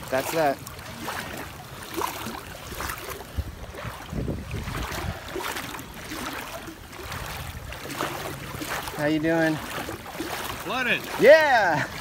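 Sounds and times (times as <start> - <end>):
water sloshing around wading legs: 0.0 - 12.0.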